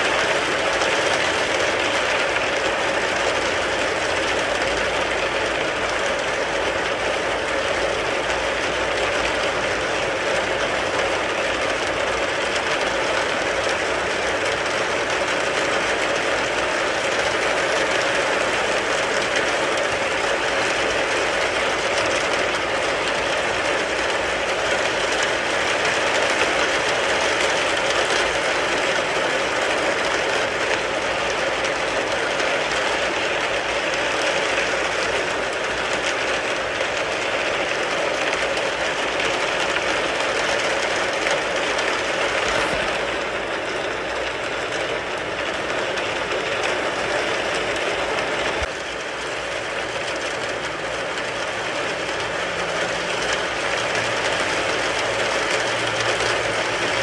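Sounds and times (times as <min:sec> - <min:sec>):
rain falling on a car: 0:00.0 - 0:42.5, 0:43.3 - 0:57.0.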